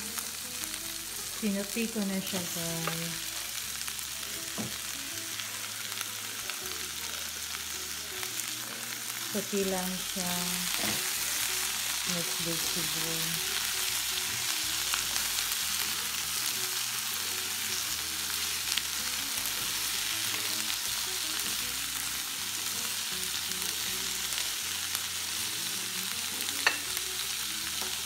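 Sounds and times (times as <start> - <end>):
vegetables sizzling in a skillet: 0.0 - 28.0.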